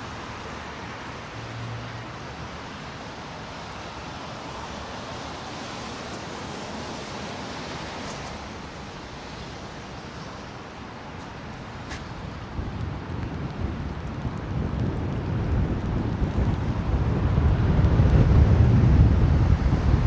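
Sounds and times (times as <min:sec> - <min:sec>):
street ambience hiss: 0:00.0 - 0:16.5.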